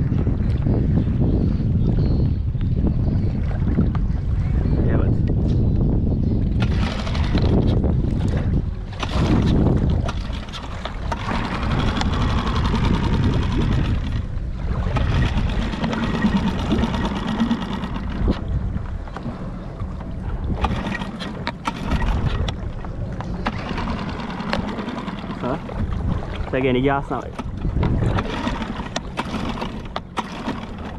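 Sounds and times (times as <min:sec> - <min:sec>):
outboard motor running: 0:00.0 - 0:30.9
water noise: 0:00.0 - 0:30.9
wind: 0:00.0 - 0:30.9.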